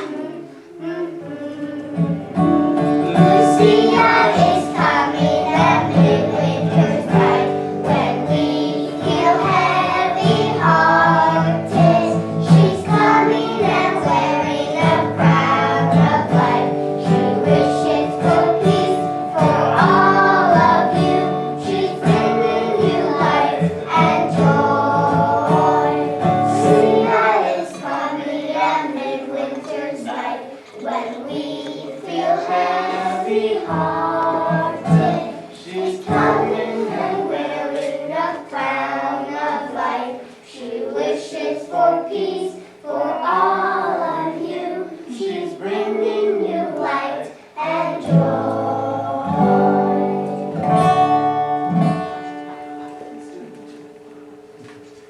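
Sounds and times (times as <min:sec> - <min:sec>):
children's choir singing: 0:00.0 - 0:54.5.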